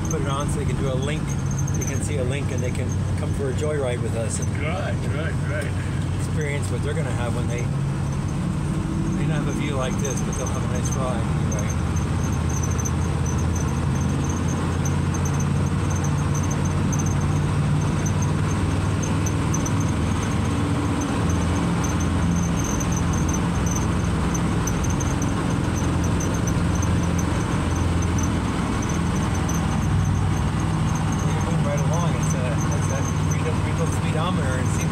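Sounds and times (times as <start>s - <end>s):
high-pitched squeak chirping: 0.0s - 3.0s, 9.0s - 34.9s
road noise: 0.0s - 34.9s
truck engine running: 0.0s - 34.9s.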